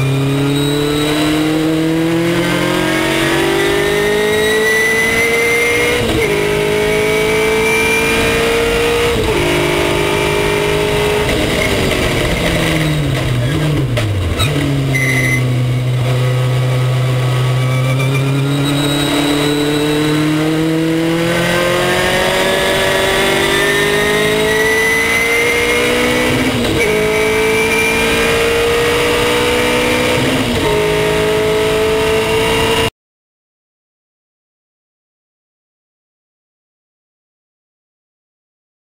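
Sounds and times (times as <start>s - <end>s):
race car engine accelerating: 0.0s - 32.9s.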